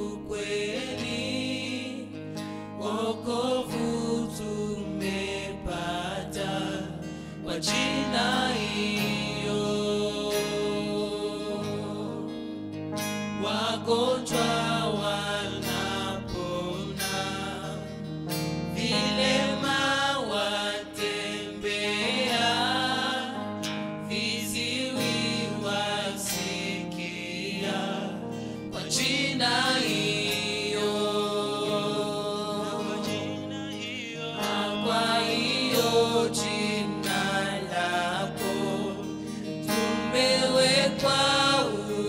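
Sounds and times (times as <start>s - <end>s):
group singing gospel song: 0.0s - 42.0s
strummed acoustic guitar: 0.0s - 42.0s.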